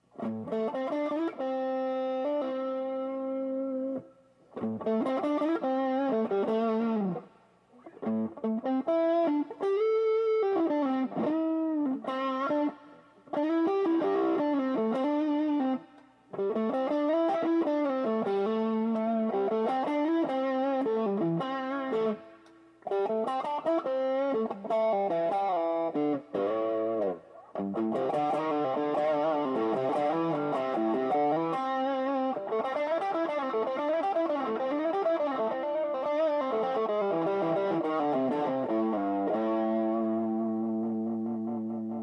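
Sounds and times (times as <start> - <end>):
distorted electric guitar lead: 4.6 - 22.2, 22.8 - 42.0.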